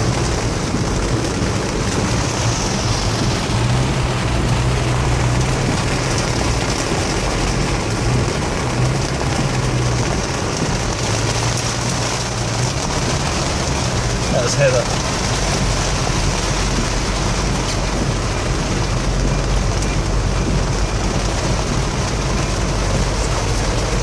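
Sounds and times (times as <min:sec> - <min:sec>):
low engine hum: 0:00.0 - 0:24.0
water spray and tyre noise: 0:00.0 - 0:24.0.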